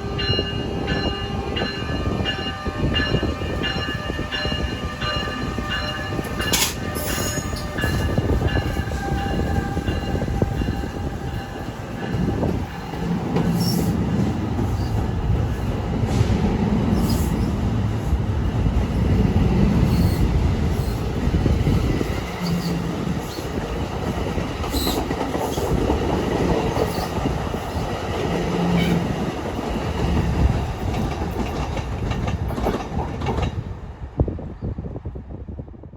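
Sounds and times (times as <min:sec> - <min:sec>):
train wheels rumbling on rails: 0:00.0 - 0:35.6.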